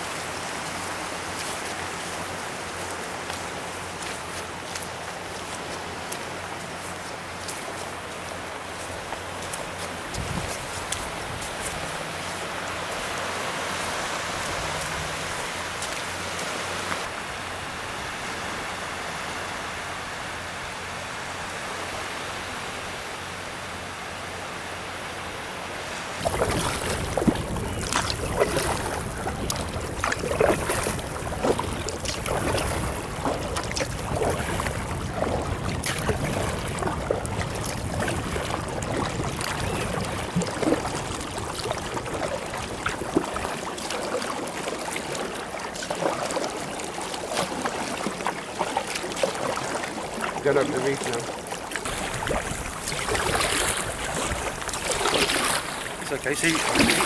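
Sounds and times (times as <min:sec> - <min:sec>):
paddle splashing in water: 0:00.0 - 0:17.2, 0:26.2 - 0:57.0
surf and breeze hiss: 0:00.0 - 0:45.8, 0:49.9 - 0:57.0.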